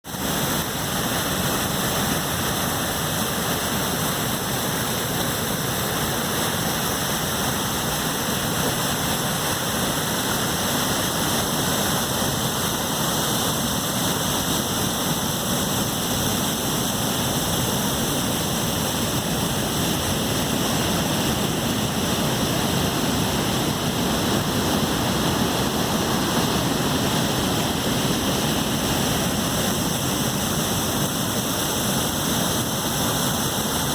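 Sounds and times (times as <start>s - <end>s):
river pouring over a dam: 0.0s - 33.9s.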